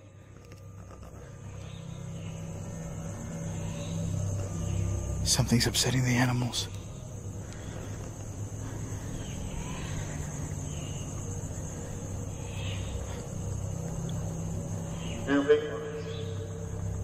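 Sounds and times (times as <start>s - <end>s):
crickets chirping: 0.0s - 17.0s
faint indistinct noises: 0.0s - 17.0s
low hum: 0.0s - 17.0s.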